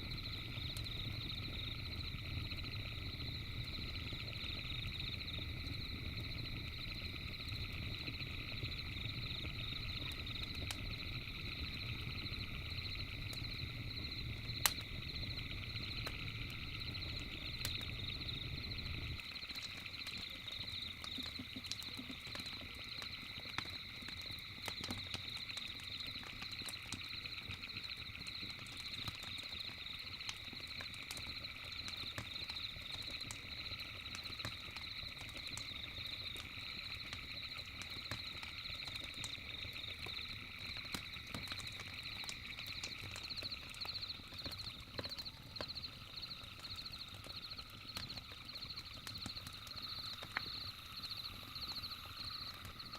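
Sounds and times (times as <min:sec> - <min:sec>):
campfire crackling and popping: 0:00.0 - 0:52.9
chorus of night-calling animals: 0:00.0 - 0:52.9.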